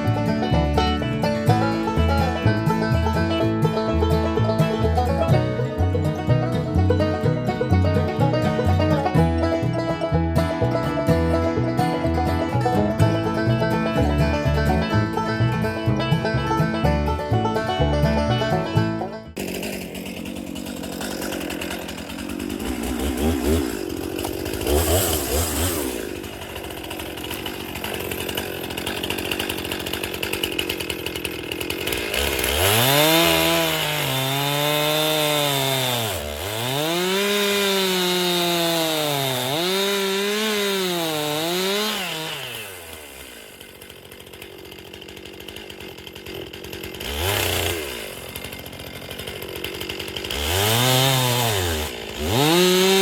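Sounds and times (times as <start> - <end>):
chainsaw cutting a tree: 0.0 - 16.7, 19.3 - 53.0.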